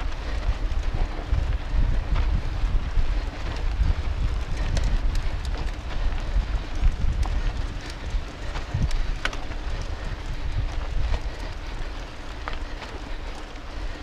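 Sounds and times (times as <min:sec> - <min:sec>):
bike clicks and rattles: 0:00.0 - 0:14.0
tyres rolling on dirt trail: 0:00.0 - 0:14.0
wind buffeting microphone: 0:00.0 - 0:14.0.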